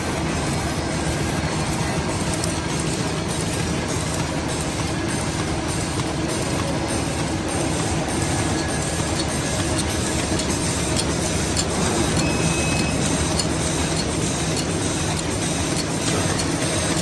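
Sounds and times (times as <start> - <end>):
packing machine humming: 0.0 - 17.0.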